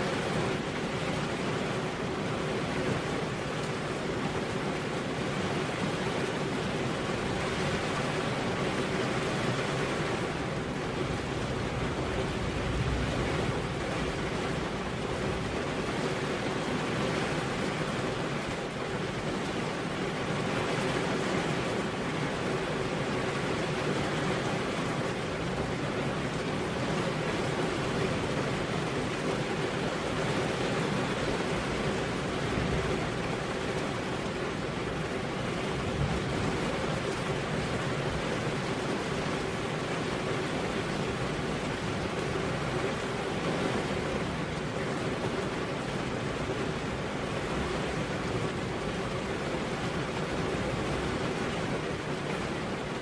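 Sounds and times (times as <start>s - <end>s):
heavy rain on a road: 0.0s - 53.0s.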